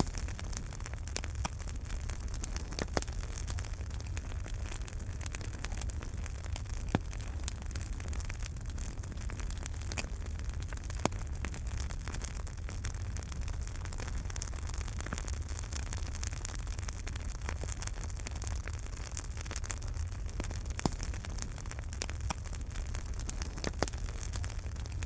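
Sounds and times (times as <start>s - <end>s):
fire low rumble: 0.0s - 25.0s
sharp fire pops: 0.0s - 25.0s
wood fire crackling: 0.0s - 25.0s.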